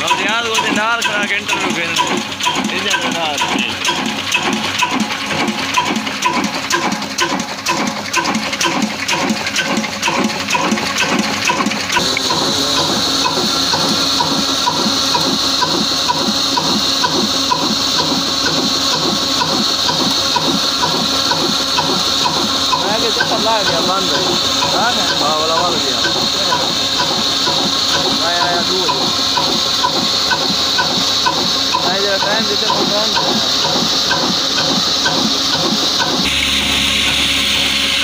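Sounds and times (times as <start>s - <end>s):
diesel engine beating: 0.0s - 38.0s
mill grinding hiss: 0.0s - 38.0s.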